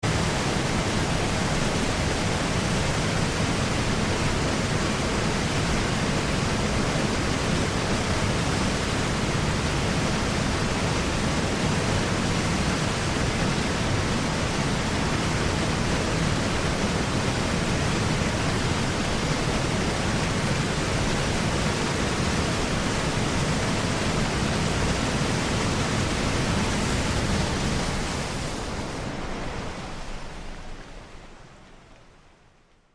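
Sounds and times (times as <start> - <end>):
water rushing over a dam: 0.0 - 32.7.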